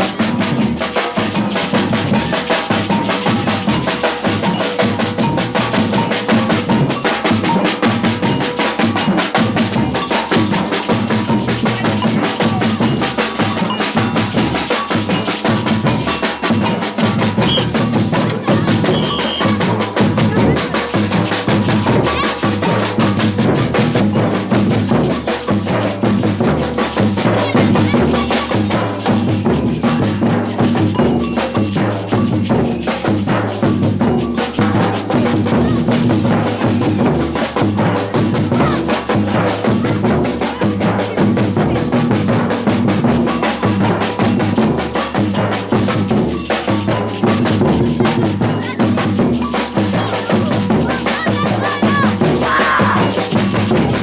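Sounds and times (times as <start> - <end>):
deep bass drums: 0.0 - 54.0
percussion ensemble playing samba: 0.0 - 54.0.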